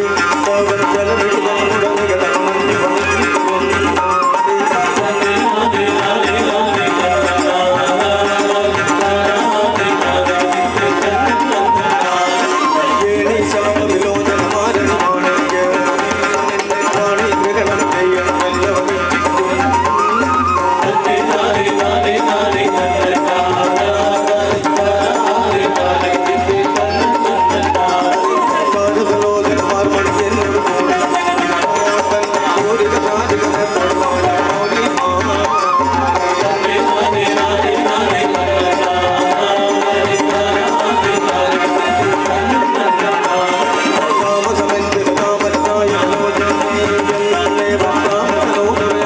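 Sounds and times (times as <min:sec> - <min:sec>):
folk melody: 0:00.0 - 0:49.0
repeating drum beat: 0:00.0 - 0:49.0.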